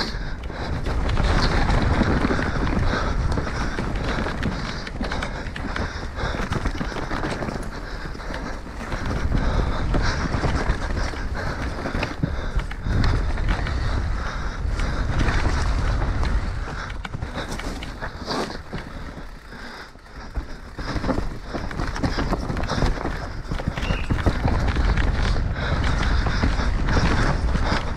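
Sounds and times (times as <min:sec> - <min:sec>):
wind rushing over microphone: 0:00.0 - 0:19.4, 0:20.7 - 0:27.9
bike chain and frame rattling: 0:00.0 - 0:27.9.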